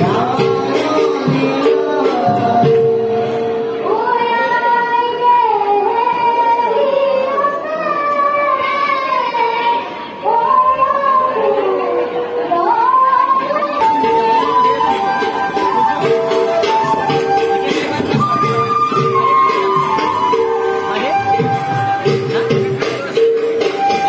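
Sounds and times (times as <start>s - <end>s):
high voice singing: 0.0s - 24.0s.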